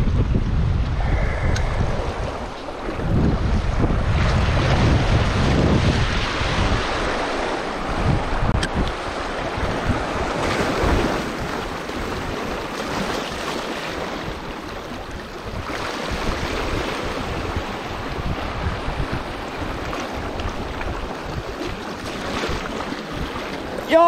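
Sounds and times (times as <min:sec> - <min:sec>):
wind buffeting microphone: 0:00.0 - 0:24.0
waves washing over rocks: 0:00.2 - 0:24.0.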